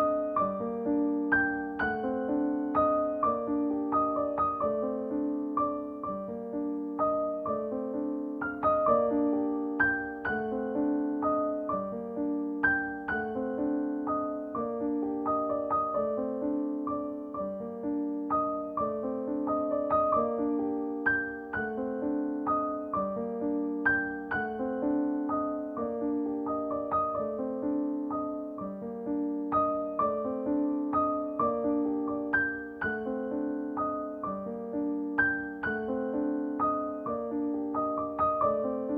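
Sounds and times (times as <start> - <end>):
gentle piano music: 0.0 - 38.9.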